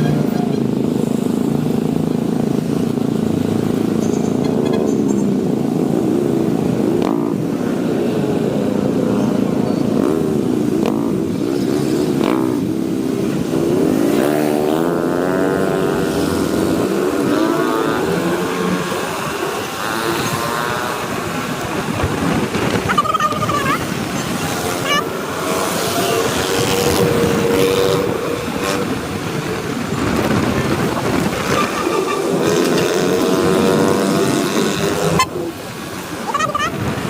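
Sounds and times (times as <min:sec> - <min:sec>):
motorcycle engine: 0:00.0 - 0:37.0
road noise: 0:00.0 - 0:37.0.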